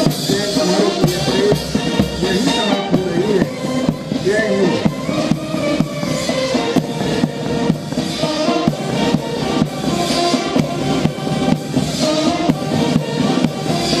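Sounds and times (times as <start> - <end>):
bass drum and snare beat: 0.0 - 14.0
military band playing a march: 0.0 - 14.0.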